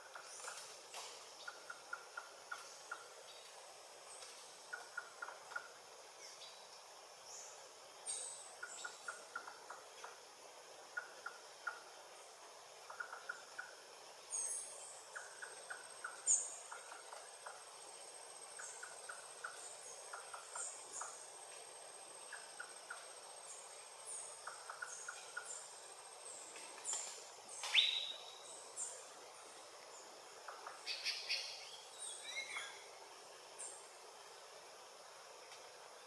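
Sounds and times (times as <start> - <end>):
high insect tone: 0.0 - 36.0.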